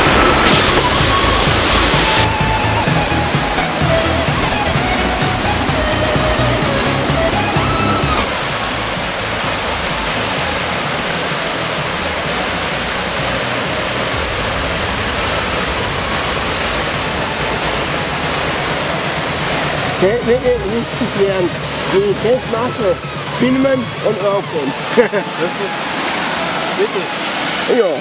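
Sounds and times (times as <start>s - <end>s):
music track: 0.0s - 28.0s
waterfall rushing: 0.0s - 28.0s.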